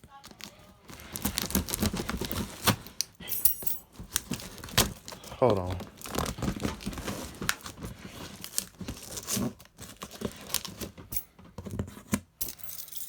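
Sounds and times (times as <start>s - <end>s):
cardboard crinkling: 0.0s - 3.0s, 3.9s - 12.3s.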